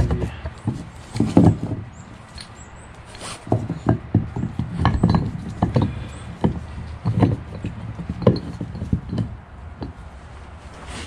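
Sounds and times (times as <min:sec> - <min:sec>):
wooden knocks and clicks: 0:00.0 - 0:02.5, 0:03.5 - 0:10.0.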